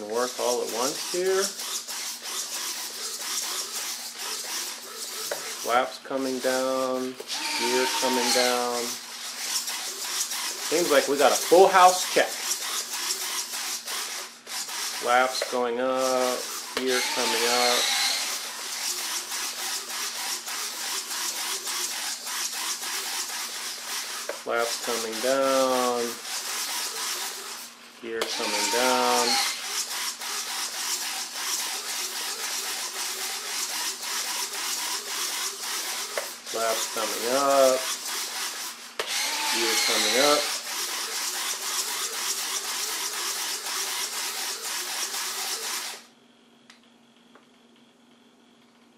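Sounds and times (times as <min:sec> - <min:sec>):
servos grinding with ticks: 0:00.0 - 0:46.0.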